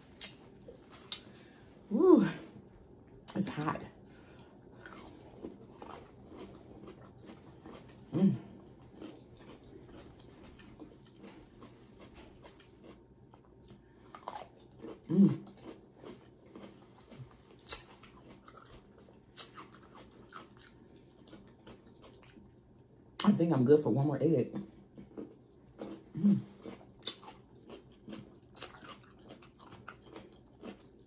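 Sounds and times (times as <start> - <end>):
person chewing food: 0.0 - 3.4, 4.2 - 23.2, 24.7 - 31.0.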